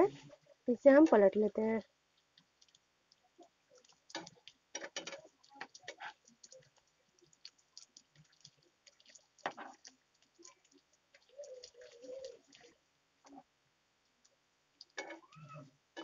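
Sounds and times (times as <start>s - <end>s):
frying oil crackling: 0.0s - 16.0s.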